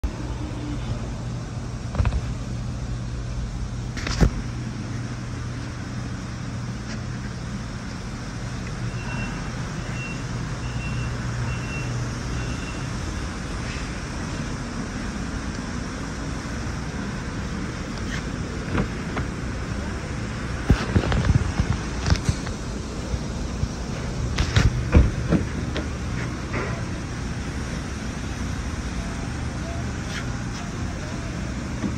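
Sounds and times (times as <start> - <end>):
low mechanical hum: 0.0 - 31.9.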